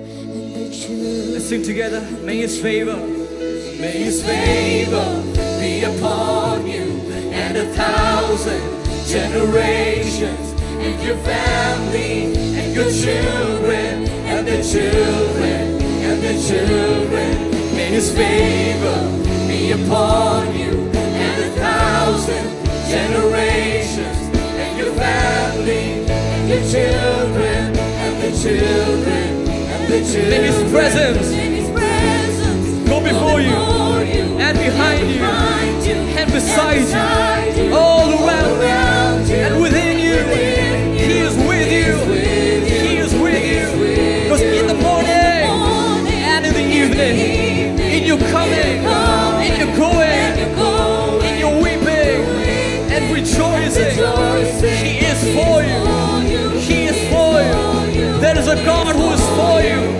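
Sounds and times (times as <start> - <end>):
band playing: 0.0 - 59.9.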